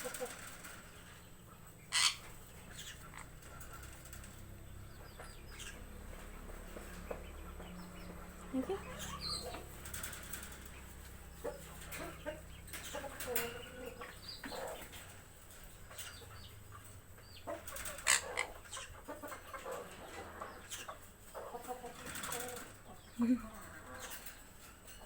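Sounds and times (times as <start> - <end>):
birds calling and squawking: 0.0 - 25.0
steady low hum: 0.0 - 25.0.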